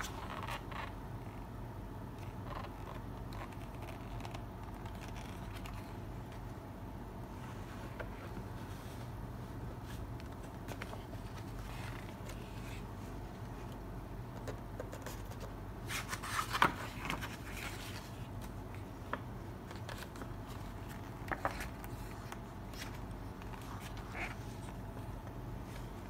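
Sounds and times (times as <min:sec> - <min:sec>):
book pages turning: 0:00.0 - 0:01.4, 0:02.1 - 0:06.5, 0:07.3 - 0:26.0
steady low hum: 0:00.0 - 0:26.0.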